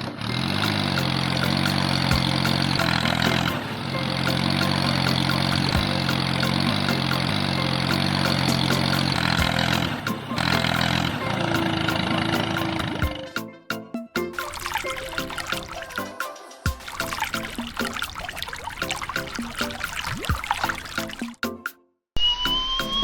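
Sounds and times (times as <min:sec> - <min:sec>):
vehicle engine running: 0:00.0 - 0:13.2, 0:14.4 - 0:16.0, 0:16.7 - 0:21.3.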